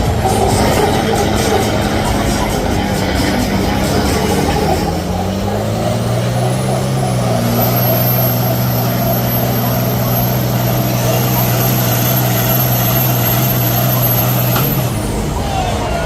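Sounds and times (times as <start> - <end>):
thin high whine: 0.0 - 15.6
vehicle engine running: 0.0 - 16.0.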